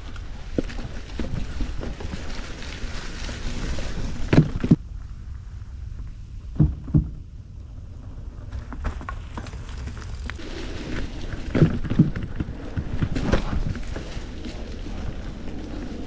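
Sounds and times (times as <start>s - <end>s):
bike knocking and rattling: 0.0s - 4.9s, 5.9s - 7.4s, 8.0s - 16.0s
tyres and wind rumbling: 0.0s - 16.0s.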